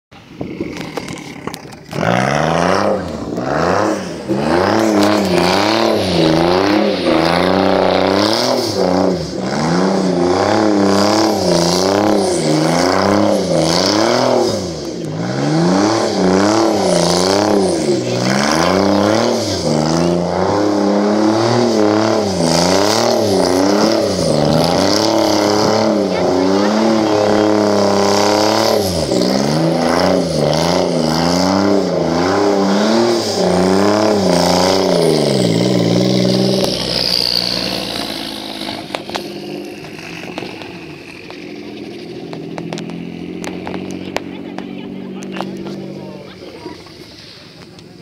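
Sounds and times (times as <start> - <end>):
car engine revving: 0.1 - 48.0.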